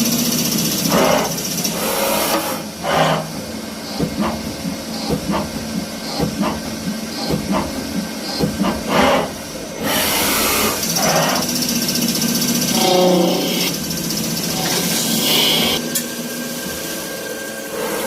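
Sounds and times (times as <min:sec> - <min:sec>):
lathe humming: 0:00.0 - 0:18.0.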